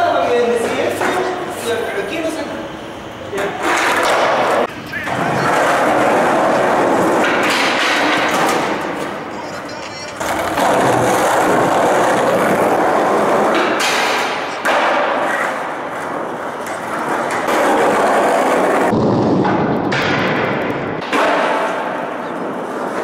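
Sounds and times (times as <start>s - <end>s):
skateboard wheels rolling on concrete: 0.0s - 23.0s
skateboard trucks grinding ledge: 3.4s - 9.3s, 10.1s - 23.0s.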